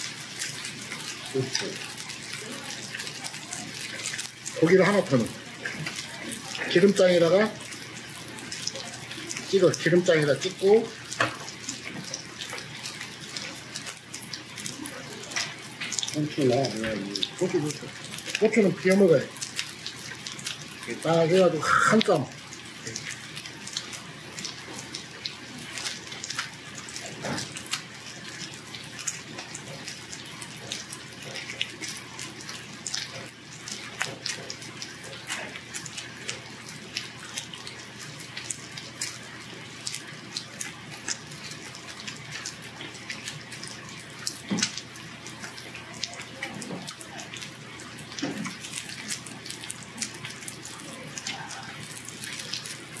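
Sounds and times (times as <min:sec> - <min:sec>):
meat sizzling on grill plate: 0:00.0 - 0:53.0.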